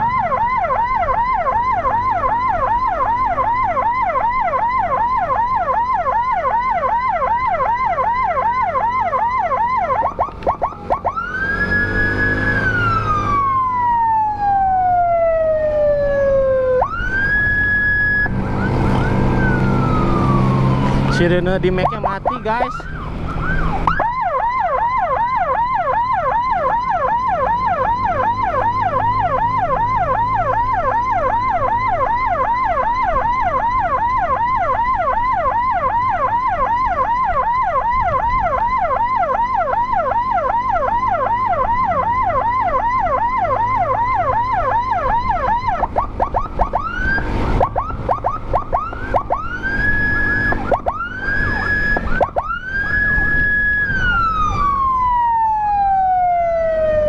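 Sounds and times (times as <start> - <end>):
electronic siren yelping: 0.0 - 57.0.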